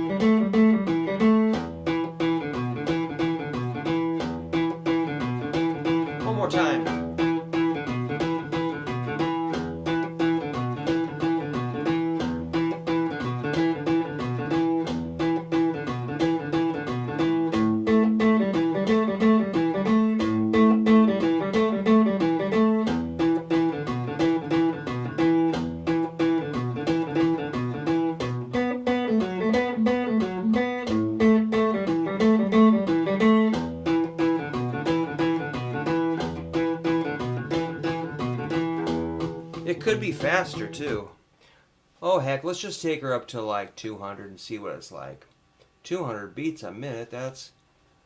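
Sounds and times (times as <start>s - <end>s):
steady ticking beat: 0.0s - 41.1s
guitar playing fast blues riff: 0.0s - 41.6s.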